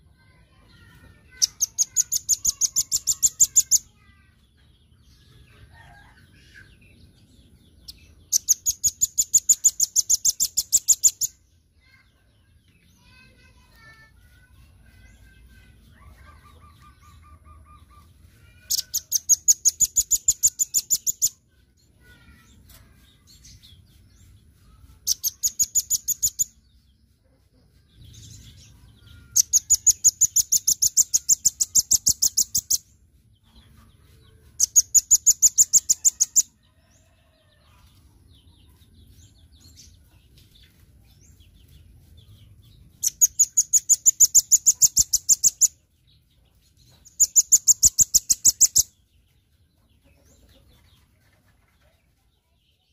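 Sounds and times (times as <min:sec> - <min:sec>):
soft bird chirps: 0:05.7 - 0:37.6, 0:38.4 - 0:52.9.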